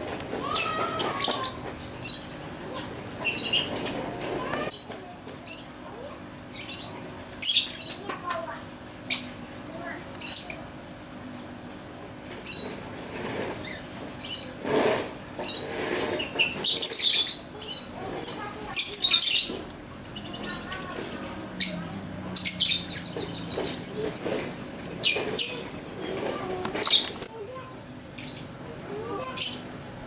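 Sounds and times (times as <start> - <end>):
lovebirds chirping and twittering: 0.4 - 8.5, 9.1 - 10.7, 12.3 - 27.3, 28.2 - 29.8.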